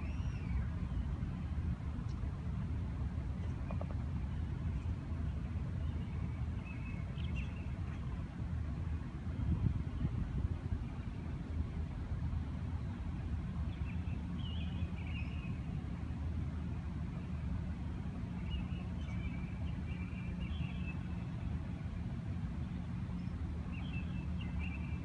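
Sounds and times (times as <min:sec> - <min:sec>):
distant road traffic rumble: 0:00.0 - 0:25.0.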